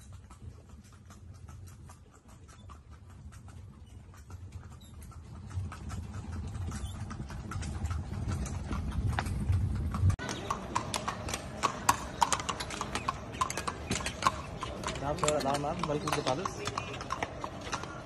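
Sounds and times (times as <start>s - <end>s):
horse hooves on paving: 0.0s - 18.0s
low carriage rumble: 0.0s - 18.0s.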